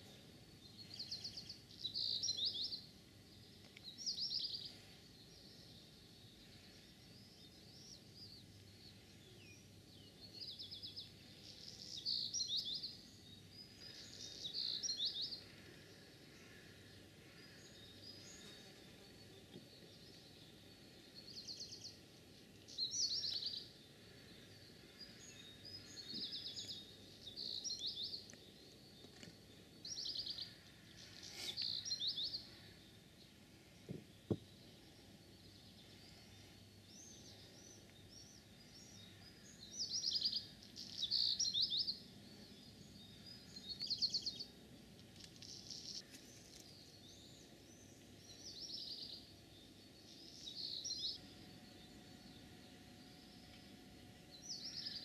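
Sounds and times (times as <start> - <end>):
faint outdoor background noise: 0.0 - 55.0.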